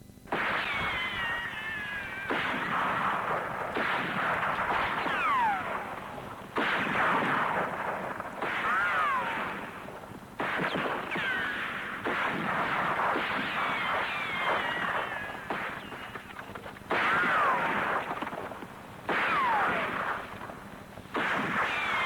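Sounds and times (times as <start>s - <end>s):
gunshots with ricochet whines: 0.0s - 22.0s.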